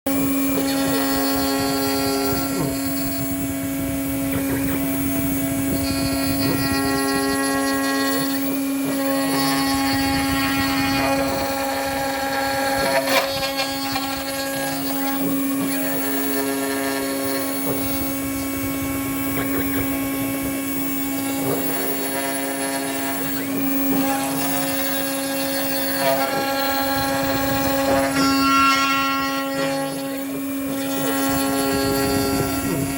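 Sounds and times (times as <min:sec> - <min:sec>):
machine motor hum: 0:00.1 - 0:32.9
short higher machine tones: 0:00.1 - 0:32.9.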